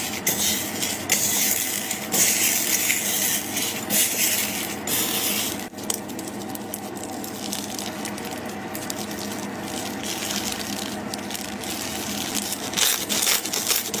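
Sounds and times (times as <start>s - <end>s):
slime squishing and crackling: 0.8s - 14.0s.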